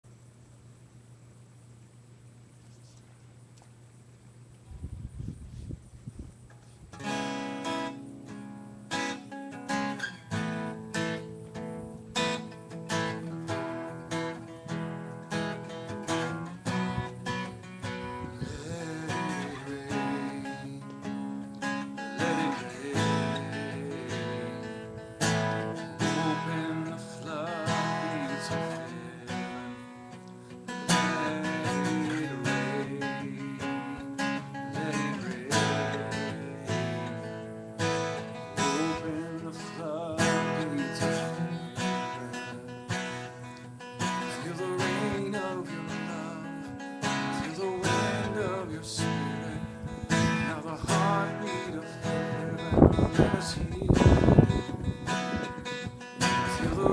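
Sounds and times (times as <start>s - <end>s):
acoustic guitar strumming: 6.5s - 56.9s.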